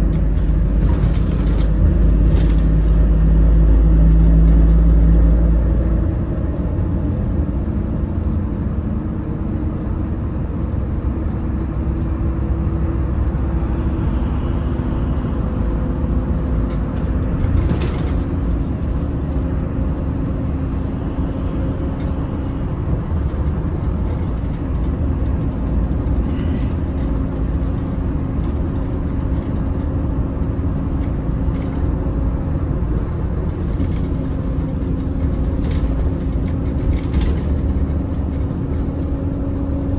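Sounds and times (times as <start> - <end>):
bus diesel engine running: 0.0 - 39.9
road noise: 0.0 - 39.9.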